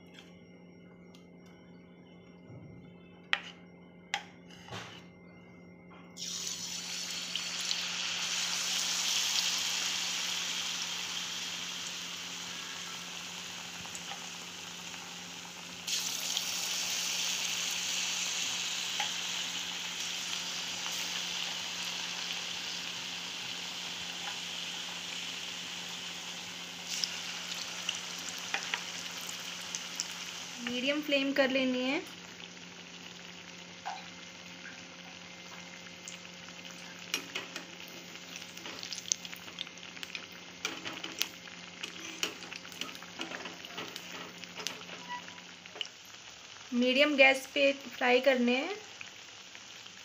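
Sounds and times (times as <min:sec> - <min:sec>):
food sizzling in hot oil: 0:06.2 - 0:50.0.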